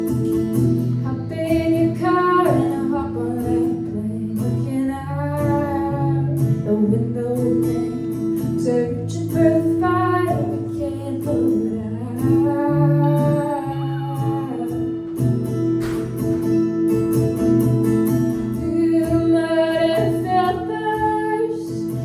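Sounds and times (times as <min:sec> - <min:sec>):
strummed acoustic guitar: 0:00.0 - 0:22.0
woman singing: 0:01.0 - 0:15.3, 0:17.6 - 0:22.0.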